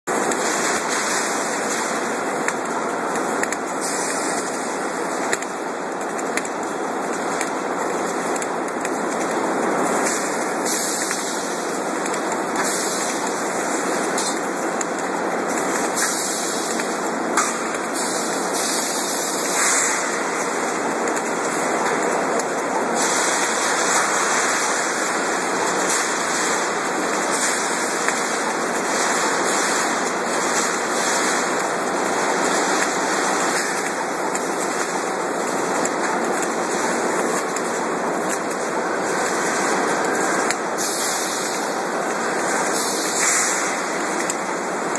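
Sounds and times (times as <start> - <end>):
hissing crackle of welding: 0.1 - 44.9
machine noise: 0.1 - 44.9.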